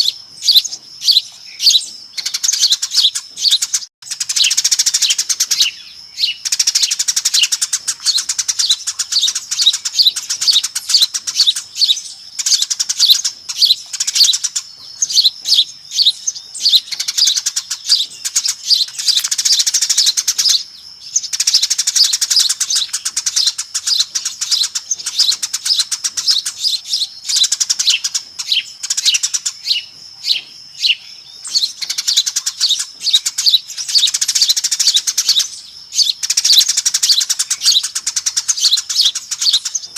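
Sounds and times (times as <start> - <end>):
flock of sparrows chirping: 0.0 - 39.9.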